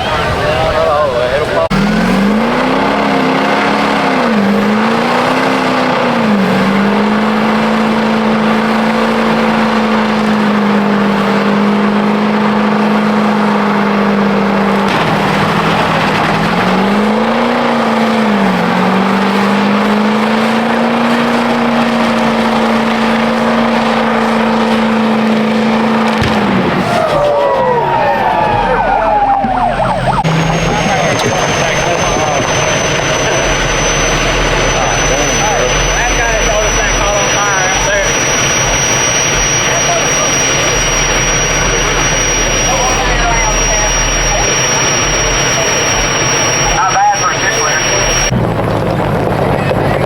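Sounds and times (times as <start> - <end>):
truck engine revving high: 0.0 - 50.0.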